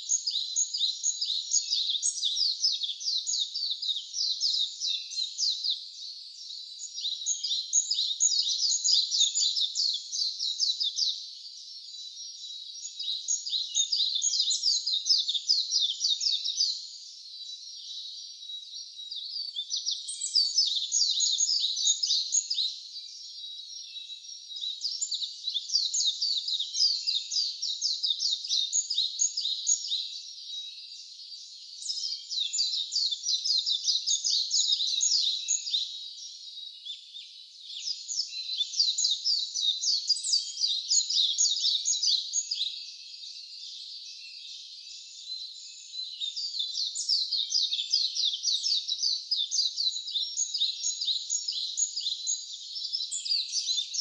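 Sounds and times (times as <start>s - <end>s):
songbird singing rapid phrases: 0.0s - 54.0s.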